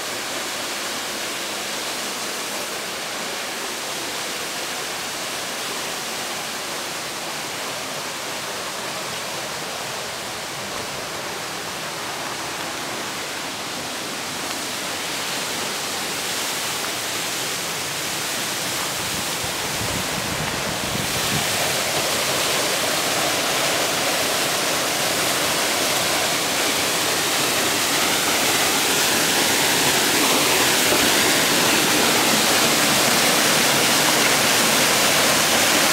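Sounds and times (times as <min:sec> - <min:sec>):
waterfall splashing over rocks: 0:00.0 - 0:35.9.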